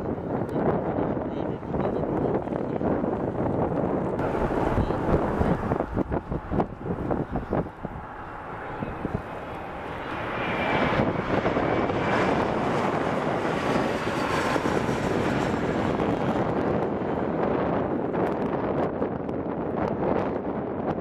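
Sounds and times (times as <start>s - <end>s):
high fan whine: 0.0s - 21.0s
jet on landing approach: 0.0s - 21.0s.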